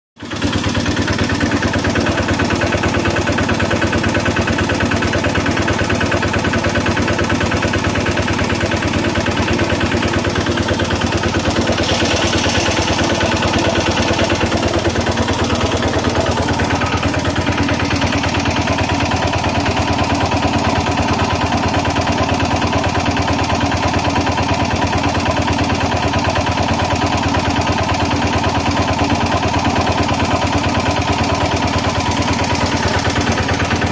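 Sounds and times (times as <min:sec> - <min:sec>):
engine idling steadily: 0:00.2 - 0:33.9.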